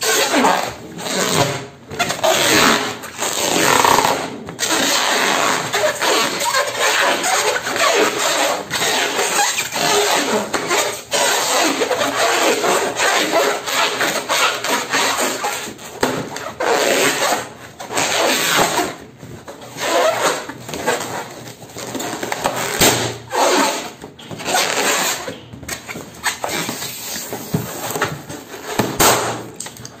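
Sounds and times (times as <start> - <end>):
hands squeaking on balloon: 0.0 - 29.7.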